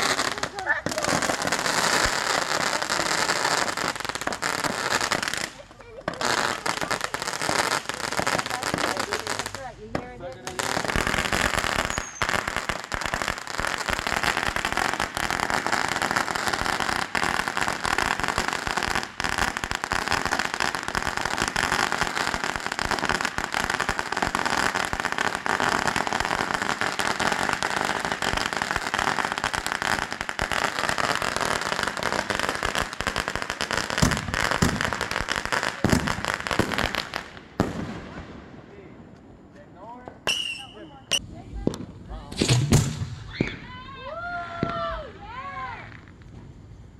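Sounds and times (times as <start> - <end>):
loud firework bangs: 0.0 - 39.3, 40.2 - 43.8
fireworks crackling and popping: 0.0 - 46.9.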